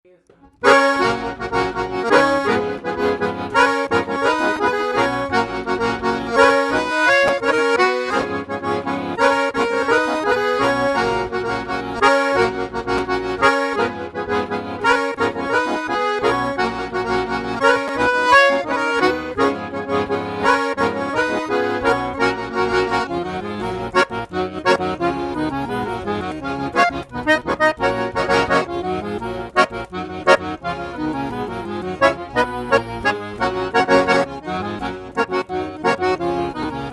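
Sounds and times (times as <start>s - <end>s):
accordion playing dance rhythm: 0.1s - 36.9s.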